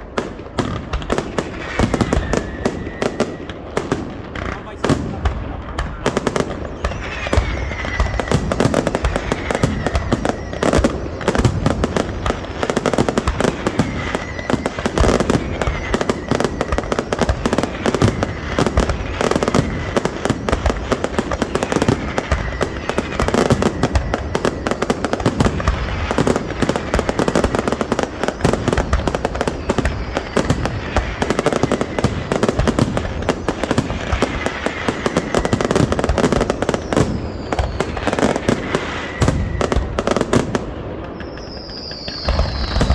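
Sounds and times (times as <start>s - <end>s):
falling firework whistles: 0.0s - 42.9s
fireworks bangs and crackles: 0.0s - 42.9s.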